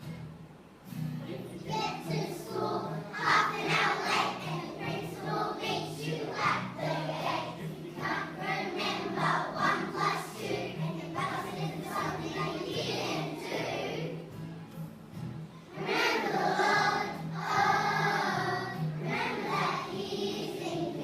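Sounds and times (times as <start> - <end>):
musical backing: 0.0 - 21.0
children singing: 1.6 - 14.3, 15.7 - 21.0.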